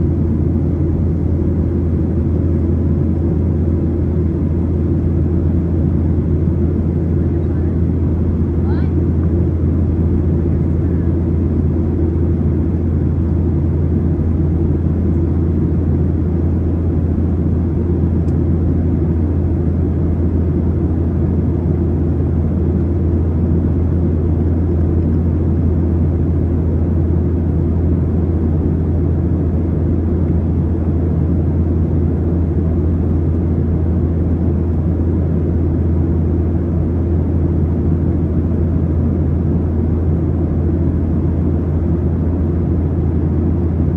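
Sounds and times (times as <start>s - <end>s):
airplane engines droning: 0.0s - 43.9s.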